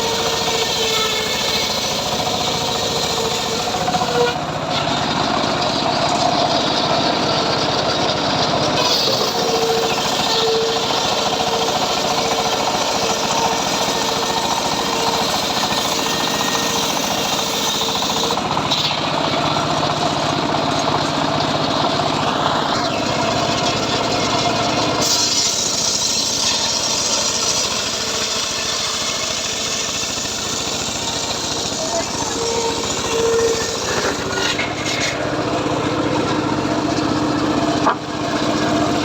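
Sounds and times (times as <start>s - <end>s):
circular saw cutting wood: 0.0s - 39.0s
engine knocking fast: 0.0s - 39.0s.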